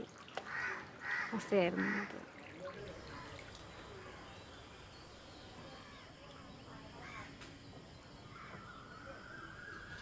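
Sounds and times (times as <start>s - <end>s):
distant bird calls: 0.2s - 10.0s.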